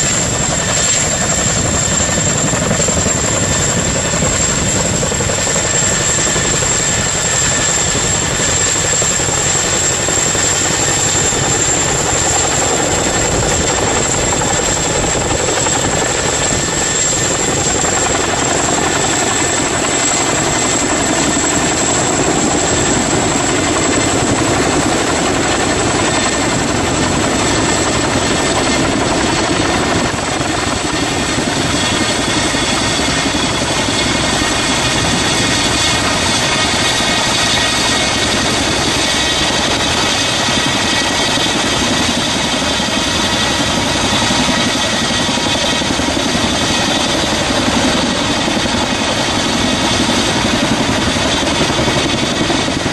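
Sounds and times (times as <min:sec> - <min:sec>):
helicopter rotor and engine roar: 0:00.0 - 0:52.9
high turbine whine: 0:00.0 - 0:52.9.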